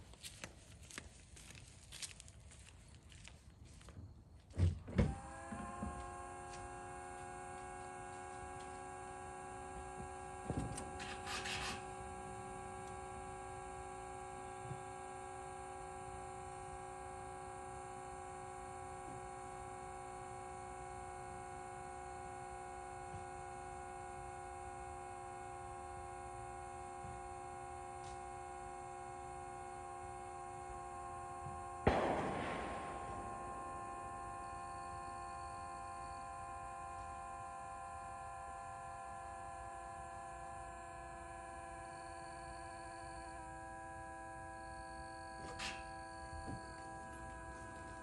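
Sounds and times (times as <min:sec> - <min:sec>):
steady hum of held tones: 0:00.0 - 0:48.0.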